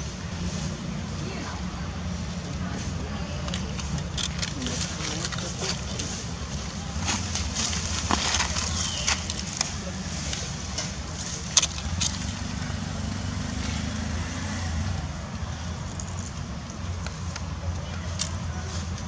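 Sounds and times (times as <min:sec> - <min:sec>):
rustles: 0:00.0 - 0:19.0.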